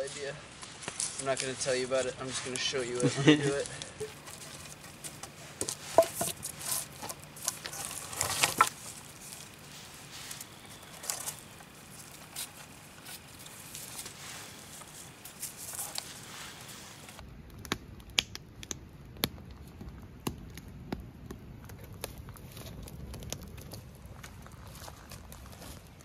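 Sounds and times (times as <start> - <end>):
cord rustling around wooden poles: 0.0 - 17.2, 21.8 - 26.0
campfire crackling and popping: 0.0 - 26.0.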